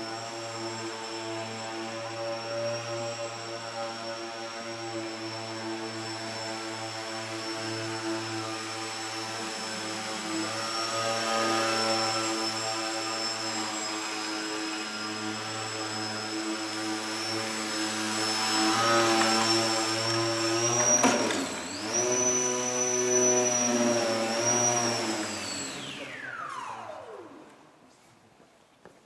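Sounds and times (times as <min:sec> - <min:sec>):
electric motor and propeller whining: 0:00.0 - 0:27.6.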